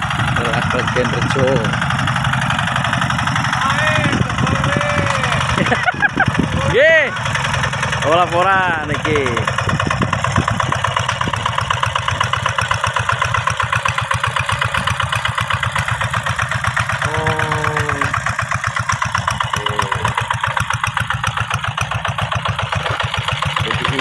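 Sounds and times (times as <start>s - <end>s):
two-wheel tractor diesel engine: 0.0s - 24.0s.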